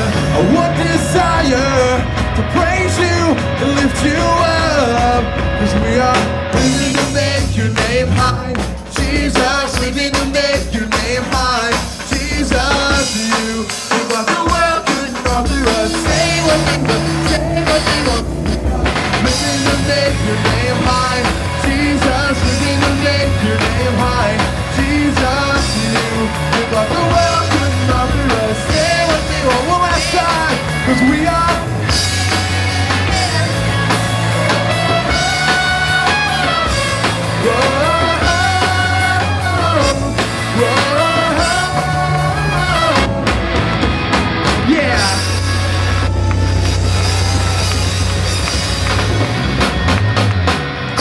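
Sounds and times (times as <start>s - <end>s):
bass guitar: 0.0s - 51.0s
drums: 0.0s - 51.0s
live rock band playing: 0.0s - 51.0s
melodic lead line: 0.0s - 51.0s.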